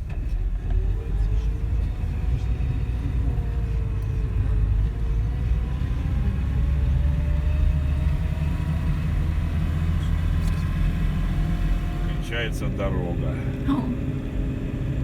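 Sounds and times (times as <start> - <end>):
car engine running: 0.0 - 15.0
low road rumble: 0.0 - 15.0.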